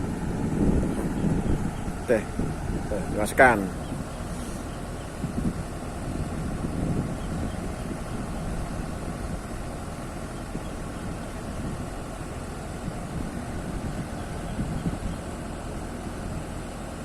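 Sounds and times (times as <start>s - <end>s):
machine engine rumbling at low revs: 0.0s - 17.0s.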